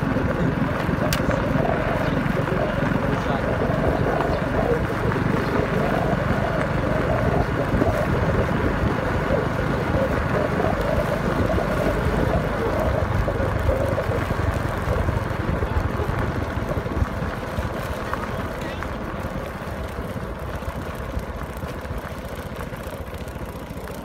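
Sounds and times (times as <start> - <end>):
motorbike engine running: 0.0 - 24.0
wind rushing over microphone: 0.0 - 24.0.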